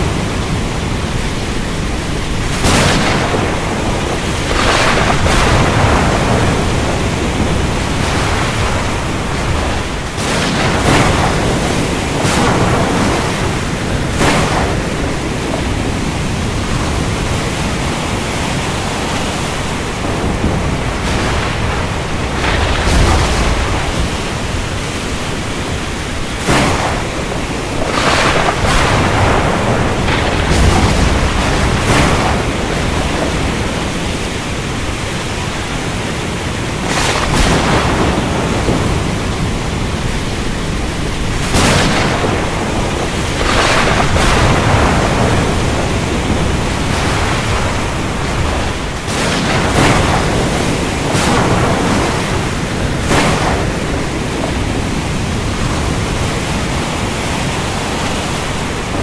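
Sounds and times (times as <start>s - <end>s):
heavy rain: 0.0s - 59.0s
rumbling thunder: 0.0s - 59.0s
surf: 0.0s - 59.0s.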